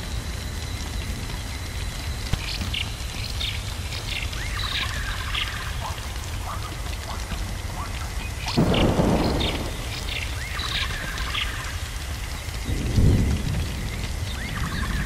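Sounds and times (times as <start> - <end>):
crackling patter: 0.0 - 15.0
thunder rumbling: 0.0 - 15.0.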